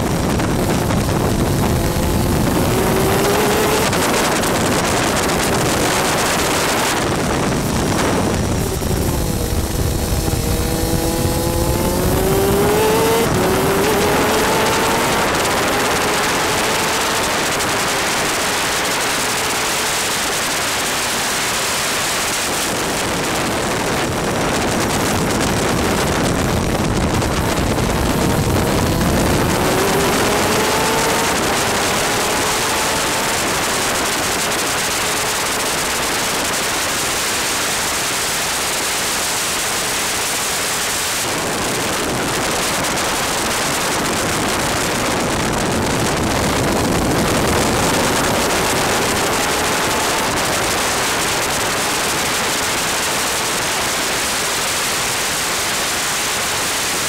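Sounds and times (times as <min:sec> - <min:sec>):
faint racing engine whine: 0:00.0 - 0:57.0
wind and spray on microphone: 0:00.0 - 0:57.0.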